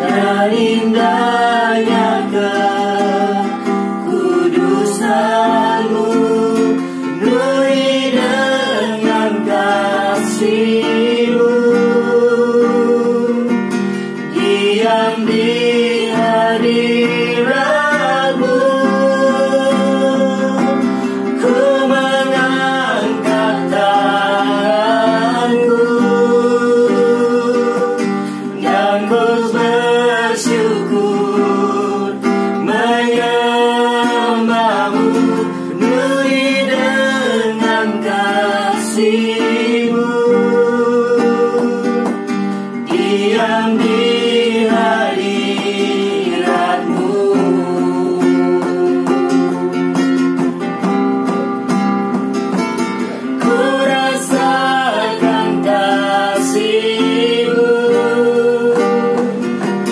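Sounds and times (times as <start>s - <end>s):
acoustic guitar: 0.0s - 59.9s
group singing: 0.0s - 59.9s.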